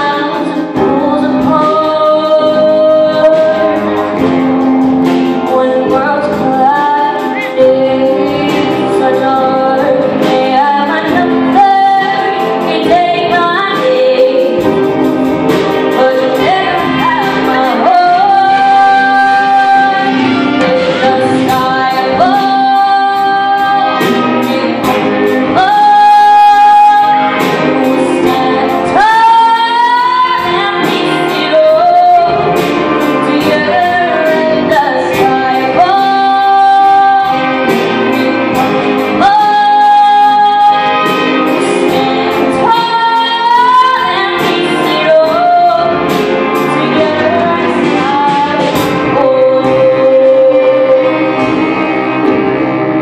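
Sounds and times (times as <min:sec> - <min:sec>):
girl singing into microphone: 0:00.0 - 0:04.3, 0:05.4 - 0:15.0, 0:15.8 - 0:51.8
jazz band playing: 0:00.0 - 0:53.0.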